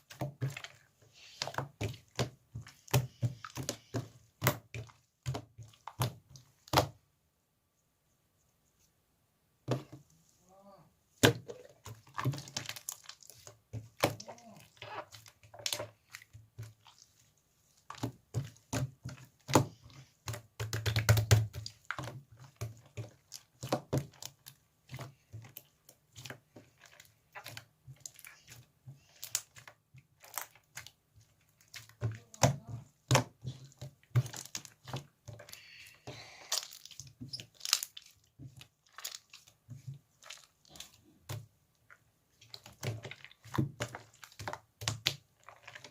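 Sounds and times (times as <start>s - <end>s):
slime squelching and popping: 0.0s - 7.0s, 11.1s - 45.9s.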